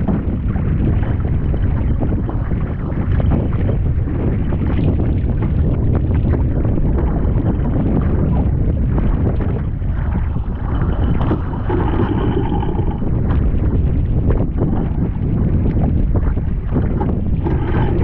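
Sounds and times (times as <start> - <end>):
water slapping against hull: 0.0 - 18.0
wind buffeting microphone: 0.0 - 18.0.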